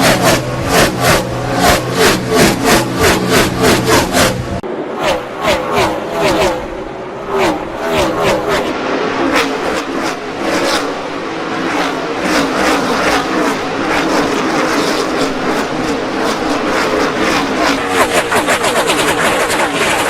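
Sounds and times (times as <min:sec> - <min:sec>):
race cars passing at full throttle: 0:00.0 - 0:20.0.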